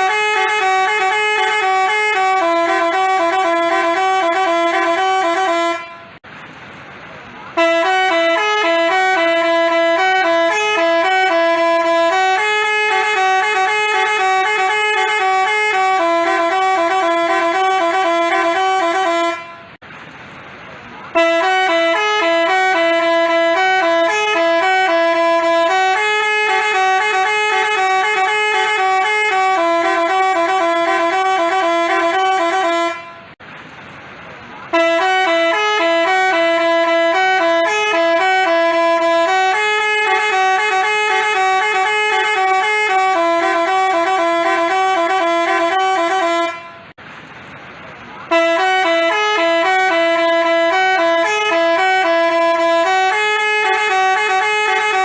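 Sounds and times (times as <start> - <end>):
musical bus horn melody: 0.0 - 6.3, 7.5 - 19.8, 21.1 - 33.4, 34.7 - 47.0, 48.2 - 55.0.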